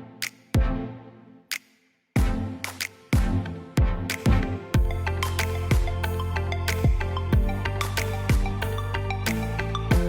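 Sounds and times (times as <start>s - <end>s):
electronic music with a beat: 0.0s - 1.6s, 2.2s - 10.0s.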